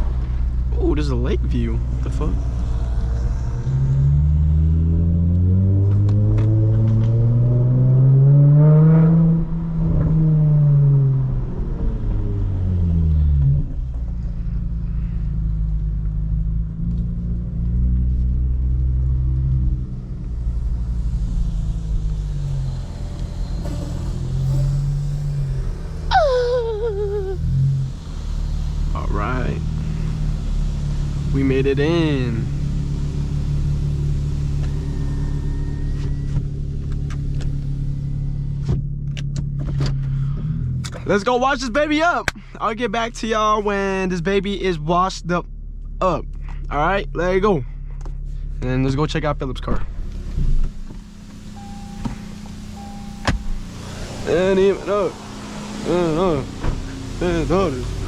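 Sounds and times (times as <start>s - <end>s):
car engine rumbling through exhaust: 0.0s - 58.0s.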